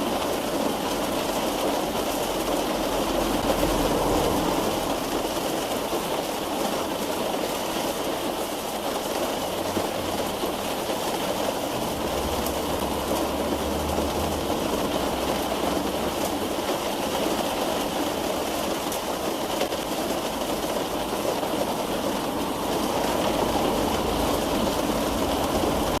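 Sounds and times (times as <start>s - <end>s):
rain on car roof: 0.0s - 26.0s.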